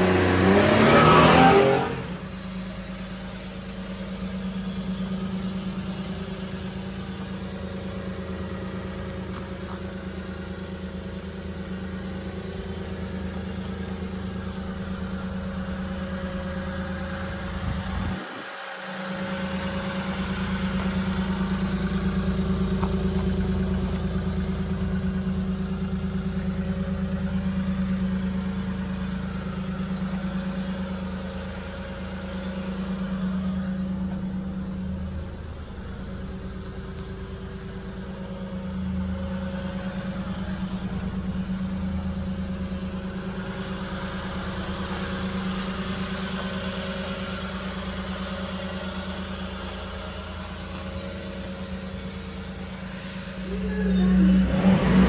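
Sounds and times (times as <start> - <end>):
small truck engine idling: 2.2 - 54.8.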